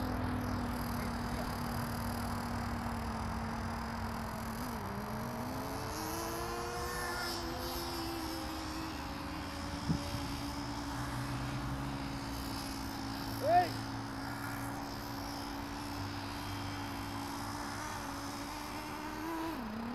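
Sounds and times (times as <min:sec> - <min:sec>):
toy truck motor humming: 0:00.0 - 0:19.9.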